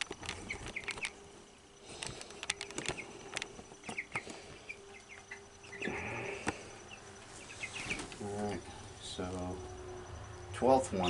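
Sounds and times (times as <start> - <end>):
feet and beaks scratching floor: 0.0 - 9.5
chicks peeping: 0.0 - 11.0
faint steady hum: 0.0 - 11.0.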